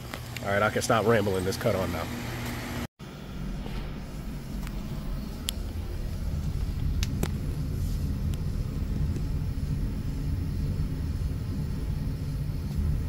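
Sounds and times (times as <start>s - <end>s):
heat pump low rumble: 0.0s - 13.0s.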